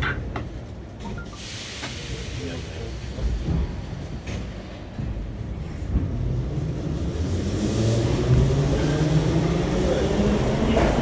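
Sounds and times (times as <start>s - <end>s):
metro train motors rumbling: 0.0s - 11.0s.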